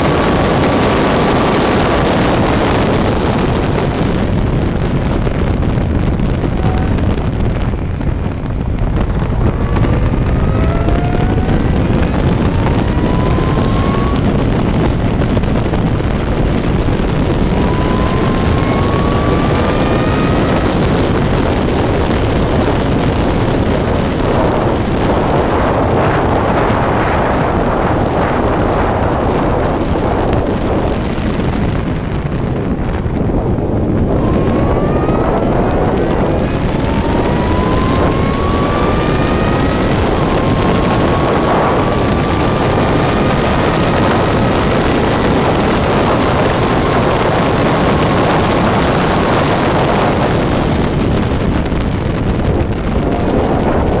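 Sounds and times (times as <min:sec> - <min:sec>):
racing engine accelerating: 0:00.0 - 0:54.0
wind buffeting microphone: 0:00.0 - 0:54.0.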